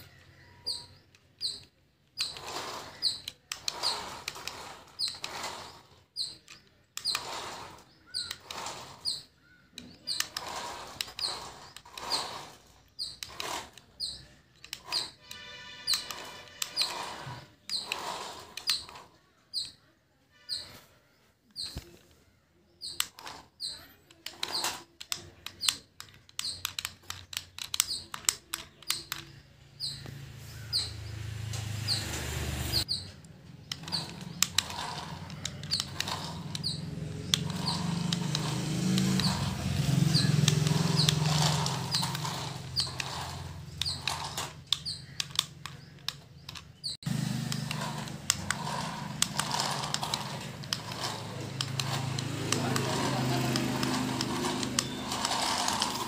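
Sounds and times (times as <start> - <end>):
small clicks: 0.0 - 20.8, 22.8 - 56.0
toy car motor whirring: 0.0 - 56.0.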